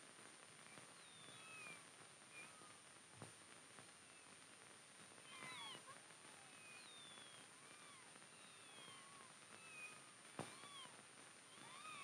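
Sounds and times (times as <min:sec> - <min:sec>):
soundtrack hiss: 0:00.0 - 0:12.0.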